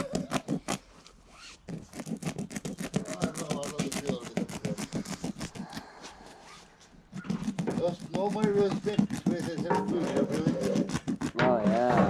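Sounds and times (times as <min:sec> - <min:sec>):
blade cutting through carpet: 0:00.0 - 0:12.0.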